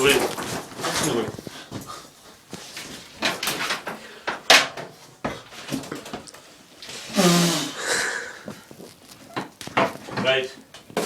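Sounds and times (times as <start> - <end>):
objects knocking and bumping: 0.0 - 6.4, 8.4 - 11.0.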